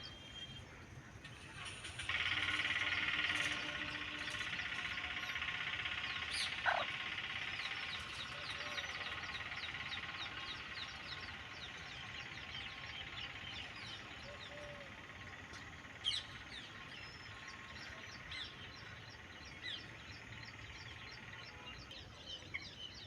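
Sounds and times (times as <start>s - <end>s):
chorus of calling wildlife: 0.0s - 23.0s.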